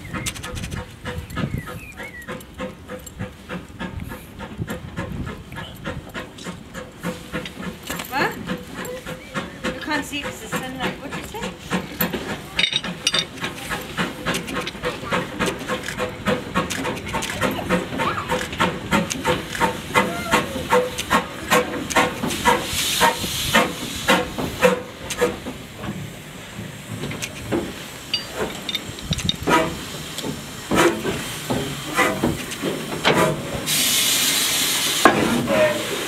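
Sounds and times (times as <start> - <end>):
loud hiss of steam: 0.0 - 36.0
steam locomotive rhythmic beat: 0.0 - 36.0.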